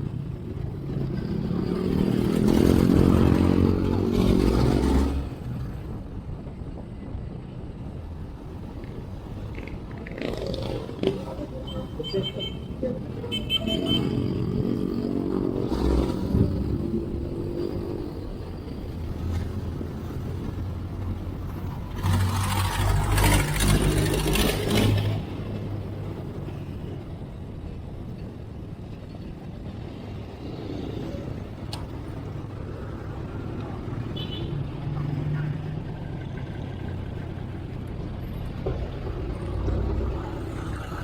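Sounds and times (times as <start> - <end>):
road rumble: 0.0 - 41.0
vehicle engine: 0.0 - 41.0.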